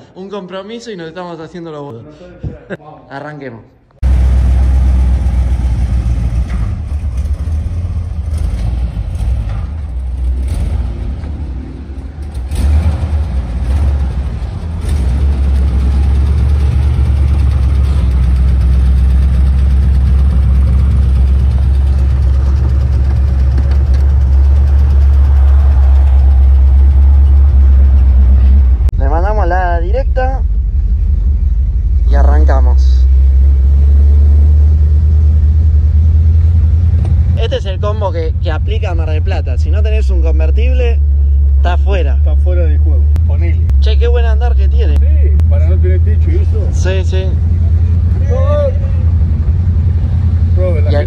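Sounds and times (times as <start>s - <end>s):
car engine rumbling: 3.9s - 51.0s.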